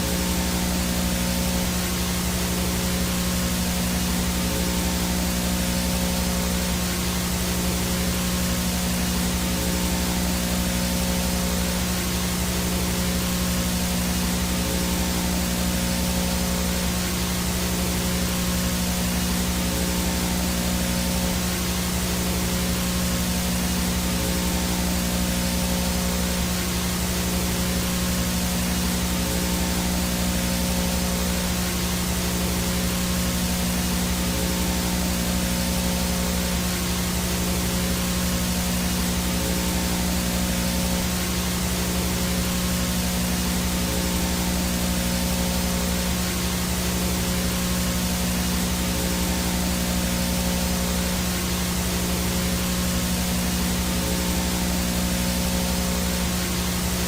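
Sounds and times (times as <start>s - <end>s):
low electrical hum and buzz: 0.0s - 57.0s
tape static hiss: 0.0s - 57.0s.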